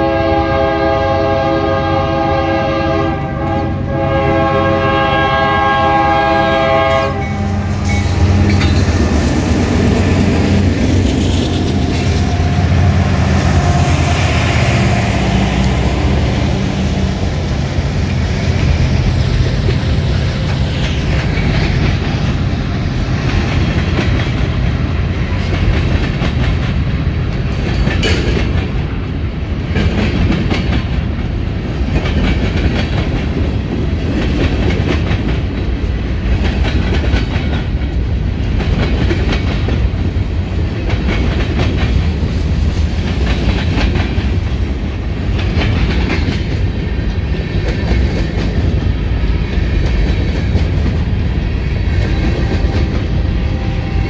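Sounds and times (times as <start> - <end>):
low rumble of train: 0.0 - 54.0
train wheels clacking: 6.8 - 54.0.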